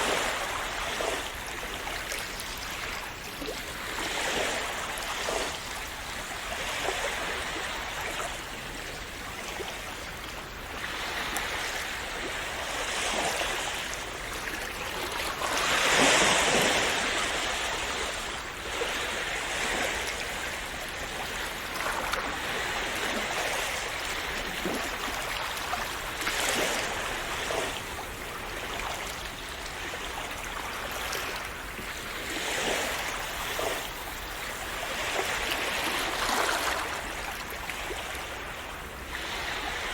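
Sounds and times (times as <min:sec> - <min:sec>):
sea waves splashing: 0:00.0 - 0:39.9.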